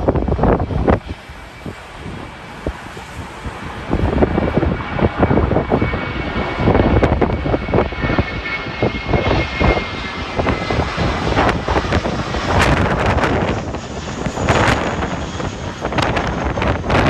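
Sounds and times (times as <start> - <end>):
aircraft engines passing: 0.0 - 17.0
wind buffeting microphone: 0.0 - 17.0.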